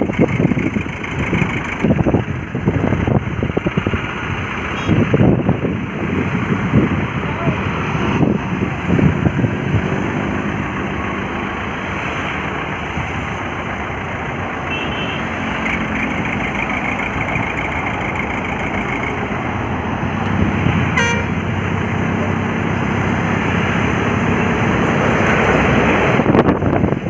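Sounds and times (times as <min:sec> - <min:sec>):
heavy diesel engines under load: 0:00.0 - 0:27.0.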